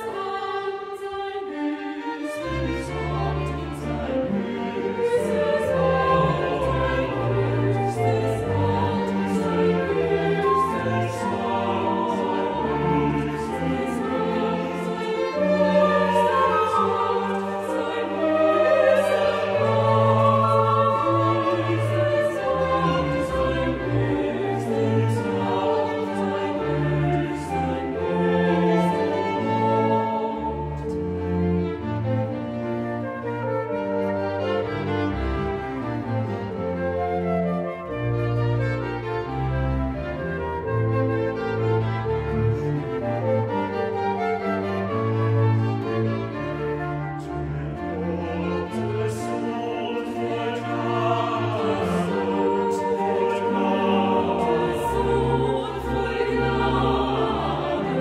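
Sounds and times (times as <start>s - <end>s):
choir singing: 0.0s - 58.0s
strings and continuo: 0.0s - 58.0s.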